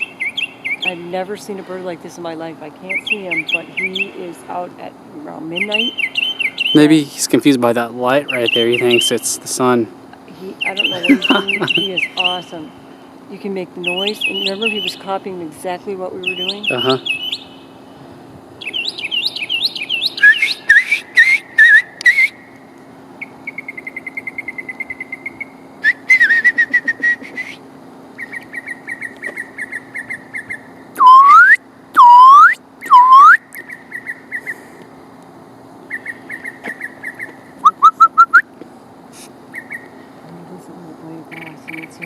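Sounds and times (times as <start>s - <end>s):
mockingbird singing: 0.0s - 17.8s, 18.6s - 22.6s, 23.2s - 27.6s, 28.2s - 34.6s, 35.9s - 38.4s, 39.2s - 40.0s, 40.9s - 42.0s
faint steady hum: 0.0s - 42.0s.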